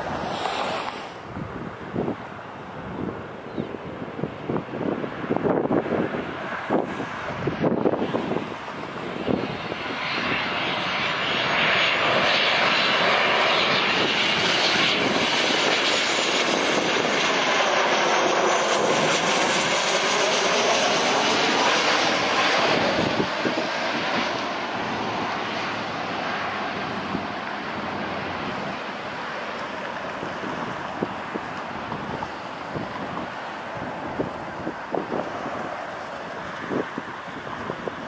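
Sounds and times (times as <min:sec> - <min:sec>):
jet airliner roaring overhead: 0:00.0 - 0:38.0.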